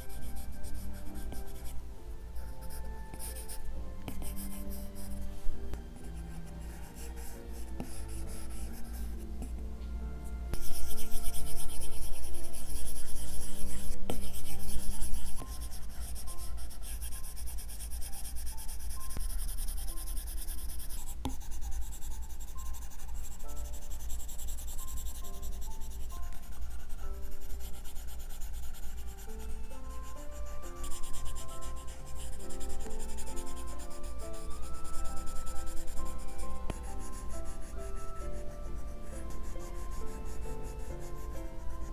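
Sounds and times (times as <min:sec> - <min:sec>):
stylus scratching on screen: 0:02.6 - 0:05.2, 0:10.6 - 0:41.9.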